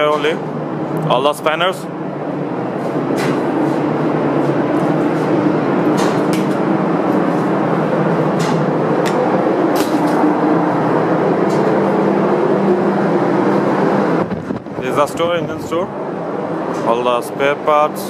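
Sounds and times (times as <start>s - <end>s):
engine-room machinery din: 0.0s - 18.0s.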